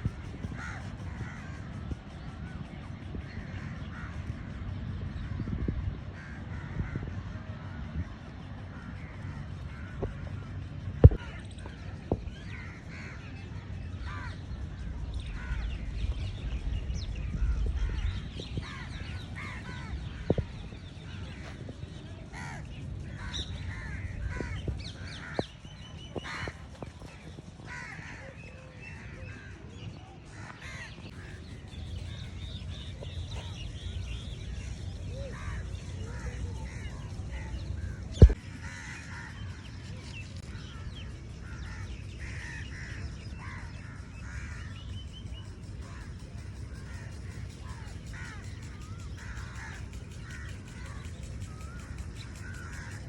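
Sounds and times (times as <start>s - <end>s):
birds calling and chirping: 0.0s - 53.0s
steady low rumble: 0.0s - 53.0s.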